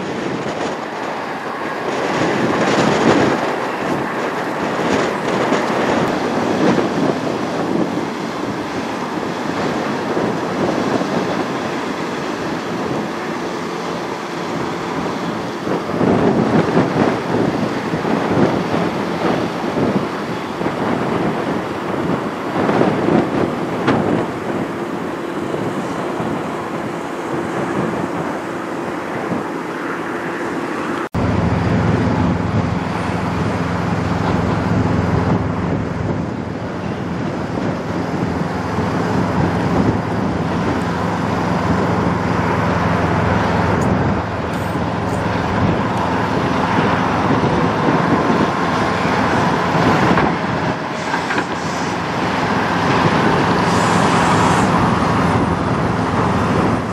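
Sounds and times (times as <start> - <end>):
truck diesel engine: 0.0 - 56.9.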